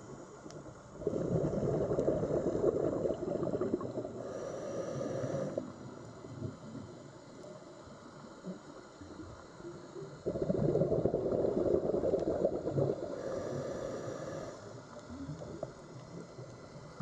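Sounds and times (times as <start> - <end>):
underwater bubbling water: 0.0 - 17.0.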